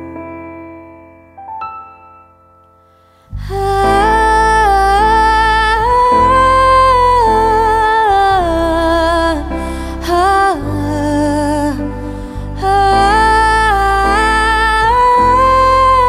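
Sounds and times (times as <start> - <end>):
keyboard accompaniment: 0.0 - 16.0
soft piano notes: 0.0 - 16.0
wordless sung melody: 0.0 - 16.0.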